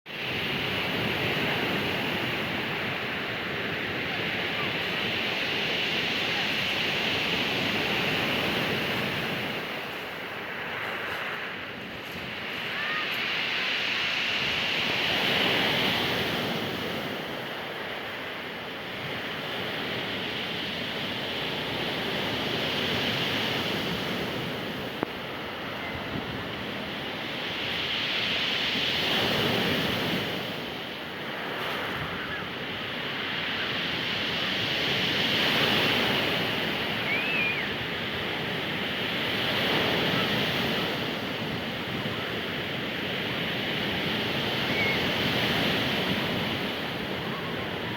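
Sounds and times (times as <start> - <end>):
sea waves breaking on shore: 0.1 - 47.9.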